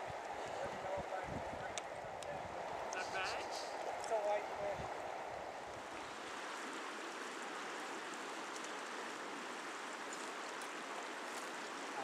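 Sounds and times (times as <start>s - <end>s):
river rushing over rocks: 2.0s - 12.0s.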